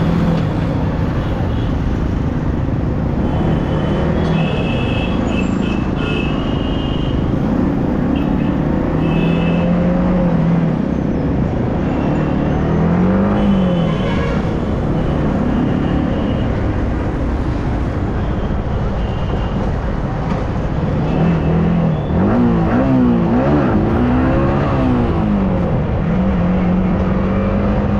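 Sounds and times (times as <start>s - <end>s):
wind and road noise: 0.0s - 27.9s.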